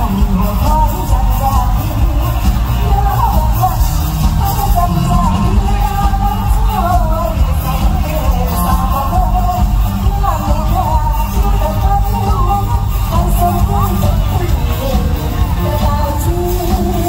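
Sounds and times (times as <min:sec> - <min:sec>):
band music with strong bass: 0:00.0 - 0:17.0
woman singing into a microphone: 0:00.0 - 0:17.0.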